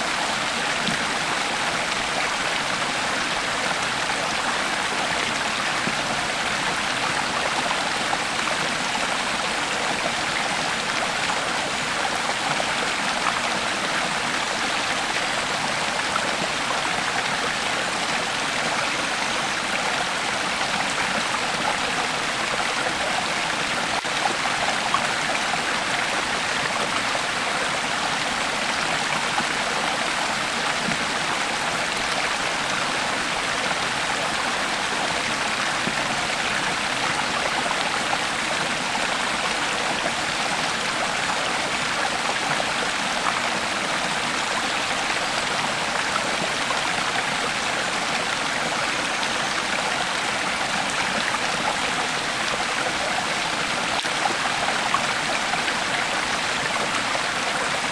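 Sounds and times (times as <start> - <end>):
creek water flowing over rocks: 0.0 - 57.9.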